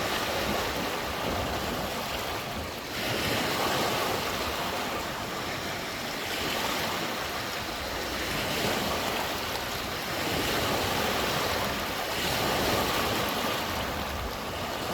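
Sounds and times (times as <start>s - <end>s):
lake water lapping: 0.0s - 14.9s.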